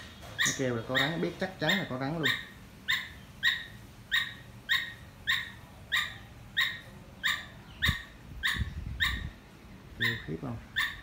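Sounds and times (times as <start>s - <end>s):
squirrel alarm call: 0.0s - 11.0s.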